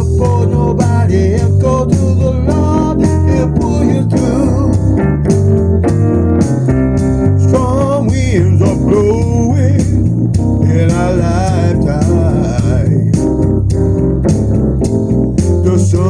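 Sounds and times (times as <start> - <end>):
blues song with drums bass and guitar: 0.0 - 16.0.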